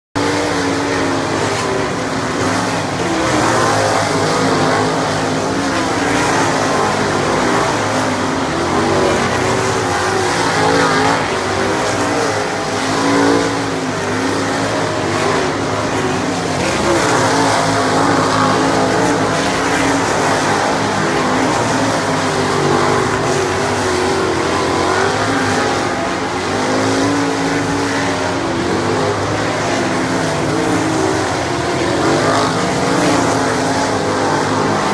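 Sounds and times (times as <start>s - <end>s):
race car engines revving: 0.2s - 34.9s.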